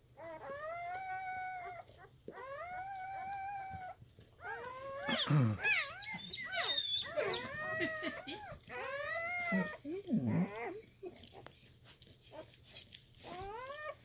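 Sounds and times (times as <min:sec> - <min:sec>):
puppies whining and squealing: 0:00.0 - 0:14.0.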